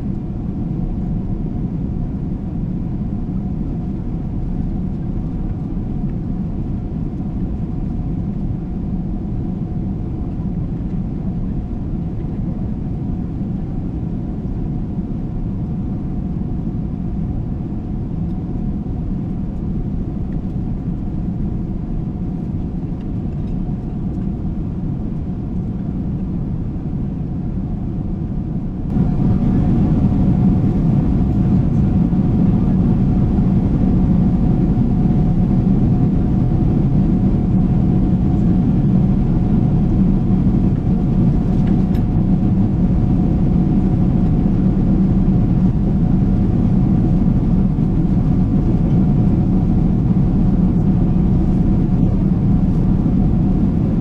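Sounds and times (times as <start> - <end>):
airplane cabin drone: 0.0 - 54.0
faint steady hum: 0.0 - 54.0.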